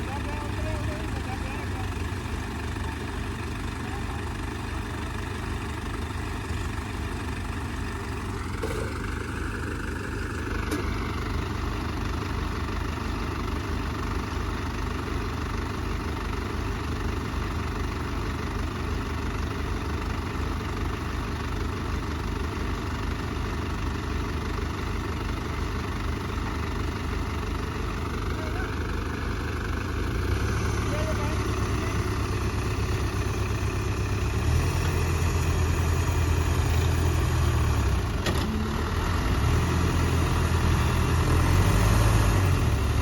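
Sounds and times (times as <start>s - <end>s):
diesel tractor engine running: 0.0s - 43.0s.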